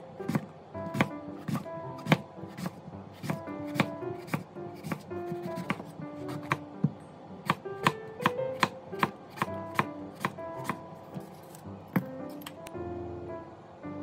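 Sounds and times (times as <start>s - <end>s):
soft background music: 0.0s - 14.0s
knife chopping on wooden board: 0.3s - 12.1s.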